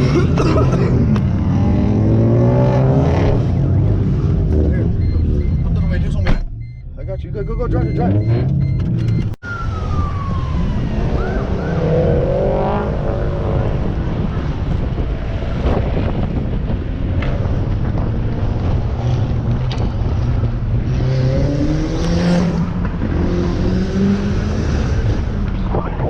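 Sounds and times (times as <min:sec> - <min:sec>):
car engines driving off: 0:00.0 - 0:26.0.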